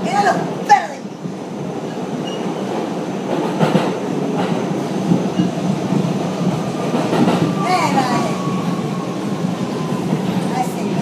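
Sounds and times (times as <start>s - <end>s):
subway car clanks: 0.0s - 11.0s
subway car rumble: 0.0s - 11.0s.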